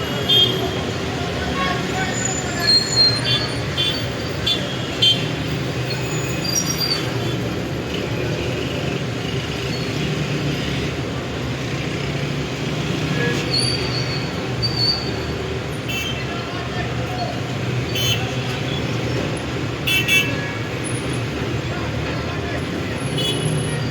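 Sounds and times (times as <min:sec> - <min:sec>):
traffic rumble: 0:00.0 - 0:23.9.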